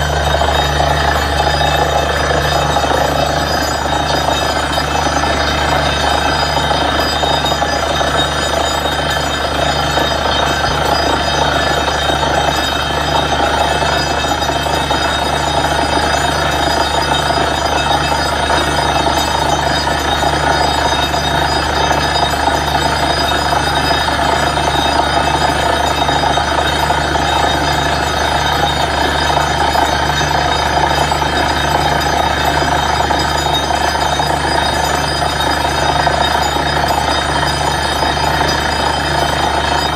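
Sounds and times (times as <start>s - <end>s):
drilling rig running: 0.0s - 39.9s.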